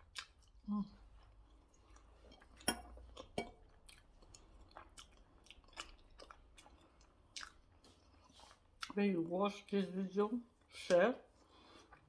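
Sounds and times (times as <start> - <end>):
person chewing food: 0.0 - 9.0, 10.5 - 12.0.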